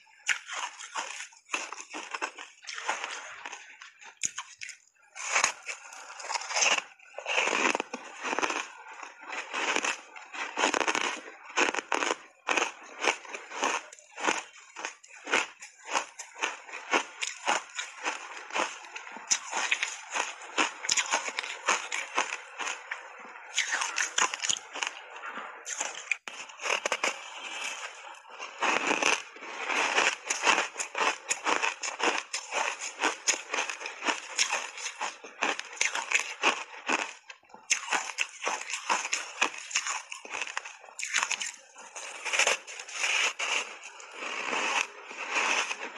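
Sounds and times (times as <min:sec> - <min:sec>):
ice crunching while chewed: 0:00.0 - 0:45.9.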